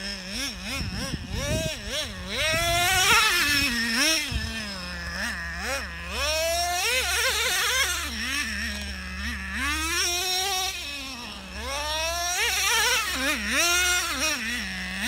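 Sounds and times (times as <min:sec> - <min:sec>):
rc truck engine revving: 0:00.0 - 0:15.0.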